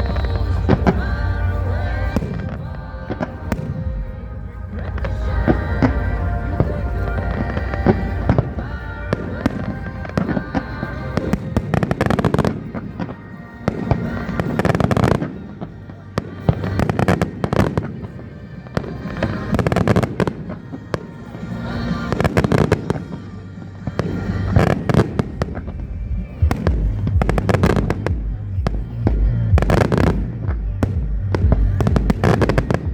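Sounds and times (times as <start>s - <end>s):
fireworks bangs and crackling: 0.0s - 32.9s
music: 0.0s - 32.9s.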